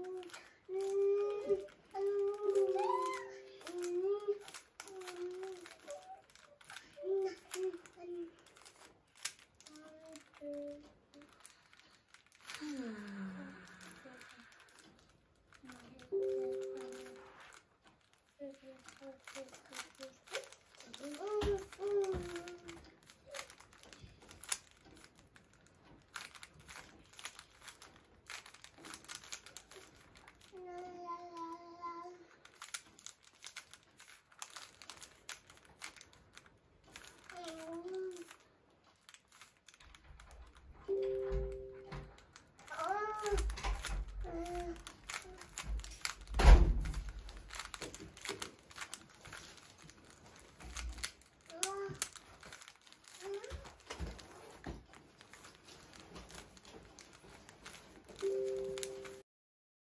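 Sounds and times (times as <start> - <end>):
puzzle cube clicking as twisted: 0.0 - 30.7, 32.4 - 59.2.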